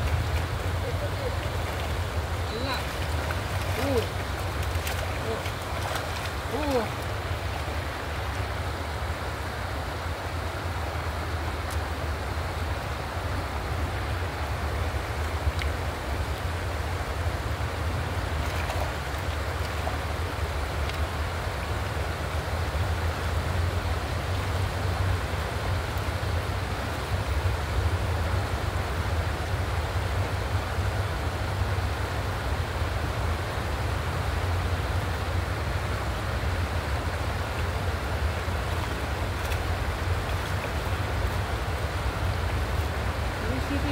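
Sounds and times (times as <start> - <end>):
water rushing over stones: 0.0 - 43.9.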